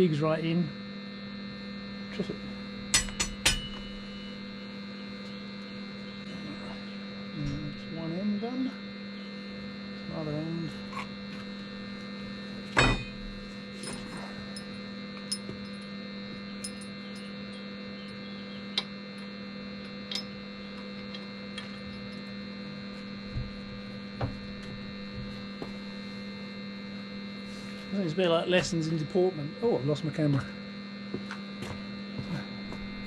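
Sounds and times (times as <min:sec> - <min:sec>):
arc welder humming: 0:00.0 - 0:33.0.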